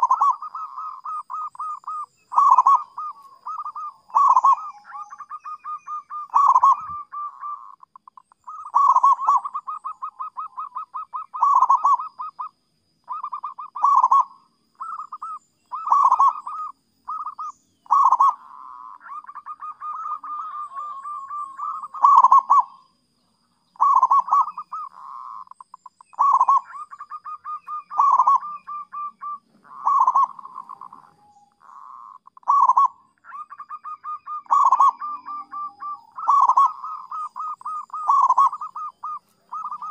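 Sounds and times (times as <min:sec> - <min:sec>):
dove cooing: 0:00.0 - 0:22.8, 0:23.8 - 0:39.9.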